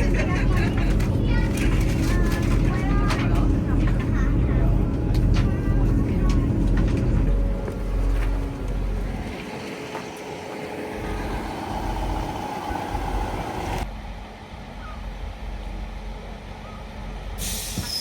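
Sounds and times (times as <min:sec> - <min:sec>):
diesel train running rumble: 0:00.0 - 0:18.0.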